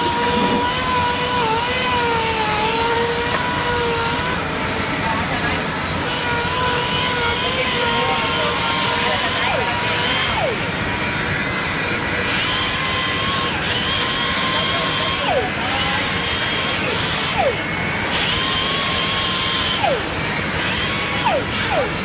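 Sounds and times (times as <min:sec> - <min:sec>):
electric sander running: 0:00.0 - 0:22.0.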